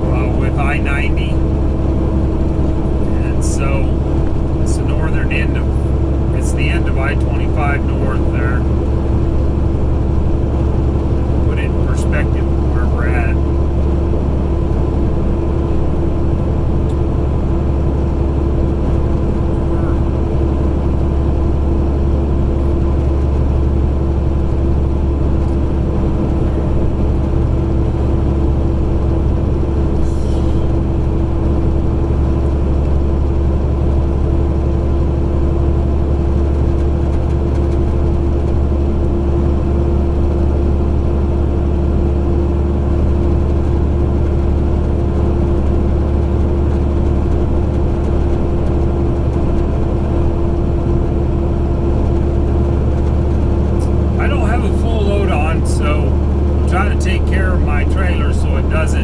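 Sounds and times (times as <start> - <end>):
diesel truck engine cruising: 0.0 - 59.0
road noise: 0.0 - 59.0.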